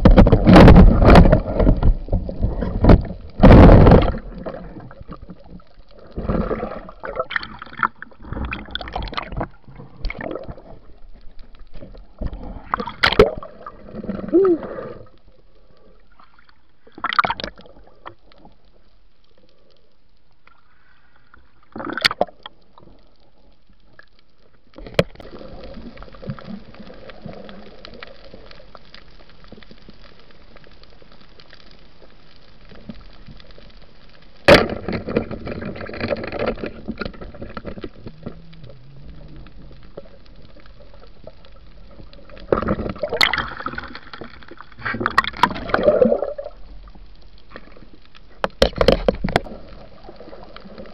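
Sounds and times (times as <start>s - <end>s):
underwater gurgling: 0.0s - 50.9s.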